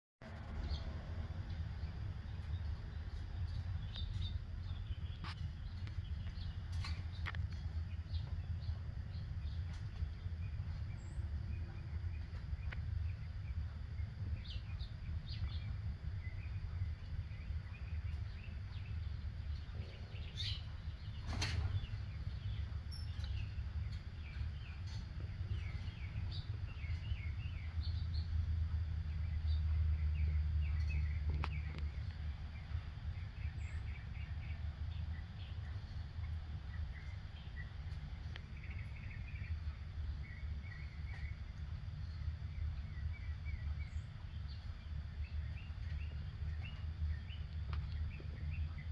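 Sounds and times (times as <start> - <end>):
low rumble: 0.2 - 48.9
small birds chirping: 0.2 - 48.9.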